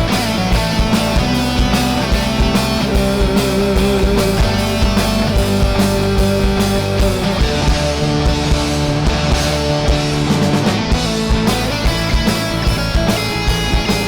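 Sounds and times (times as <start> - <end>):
bass guitar: 0.0 - 14.0
distorted electric guitars: 0.0 - 14.0
driving drum beat: 0.0 - 14.0.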